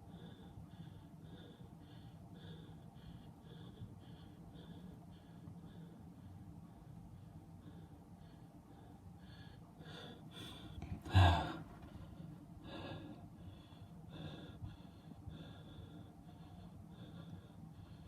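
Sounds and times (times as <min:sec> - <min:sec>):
soft breathing: 0:00.0 - 0:18.0.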